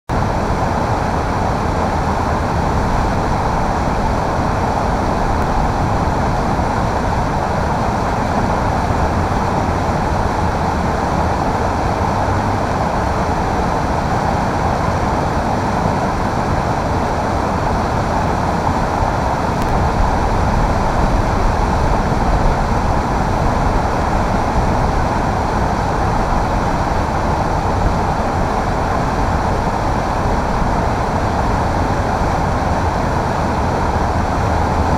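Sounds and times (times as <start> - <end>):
roar of river rapids: 0.1 - 34.9.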